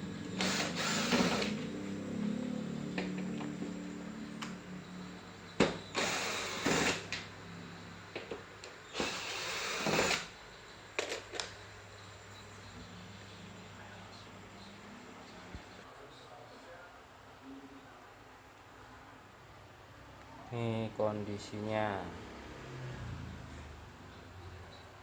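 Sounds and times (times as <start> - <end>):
steady low hum: 0.0 - 11.0, 11.6 - 22.2.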